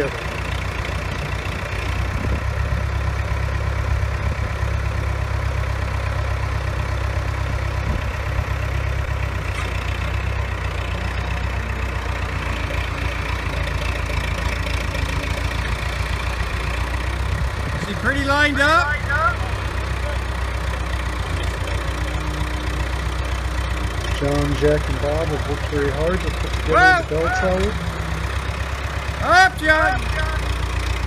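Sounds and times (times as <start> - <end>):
forklift engine idling: 0.0 - 31.0.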